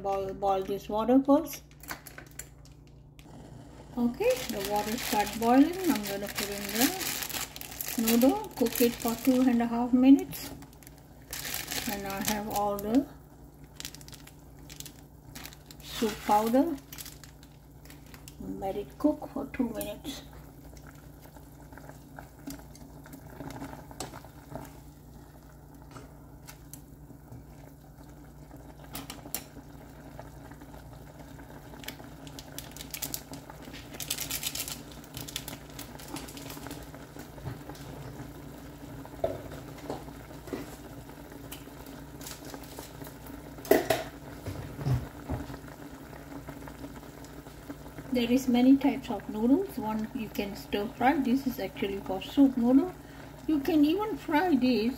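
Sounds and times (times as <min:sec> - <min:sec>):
low steady hum: 0:00.0 - 0:54.9
water boiling and bubbling: 0:00.0 - 0:54.9.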